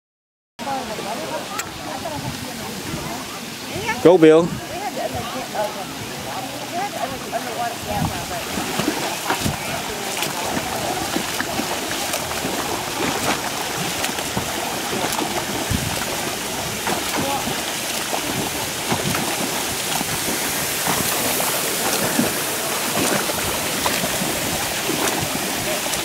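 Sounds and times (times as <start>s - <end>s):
swimmer splashing in pool: 0.6s - 26.0s.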